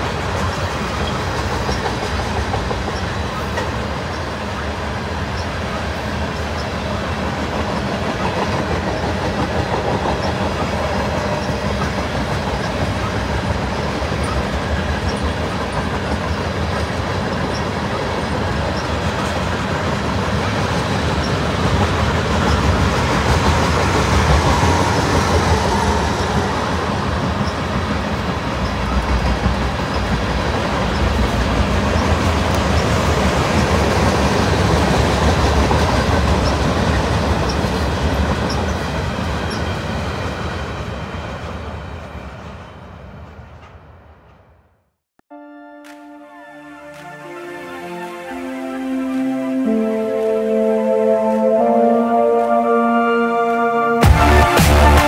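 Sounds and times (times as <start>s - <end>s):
freight train rumbling past: 0.0s - 44.6s, 46.5s - 55.0s.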